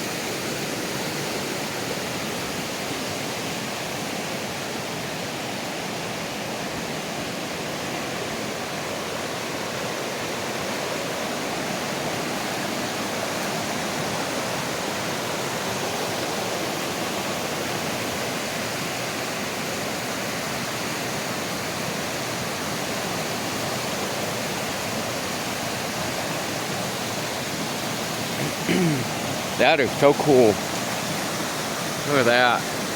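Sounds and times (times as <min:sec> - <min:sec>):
creek water roaring: 0:00.0 - 0:32.9.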